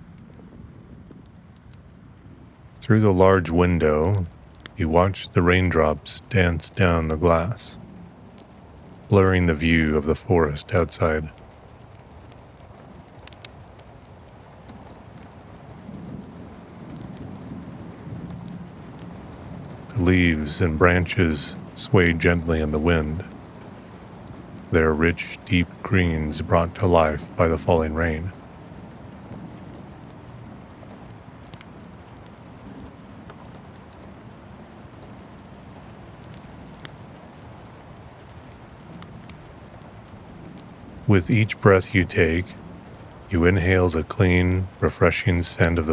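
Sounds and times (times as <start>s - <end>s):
low rumble: 0.0s - 45.9s
rain falling: 0.0s - 45.9s
sharp ticks and pops: 0.0s - 45.9s.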